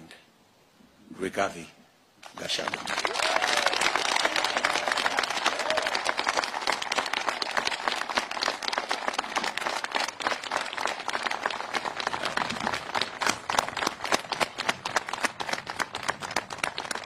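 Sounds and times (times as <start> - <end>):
crowd applauding: 2.3 - 17.0.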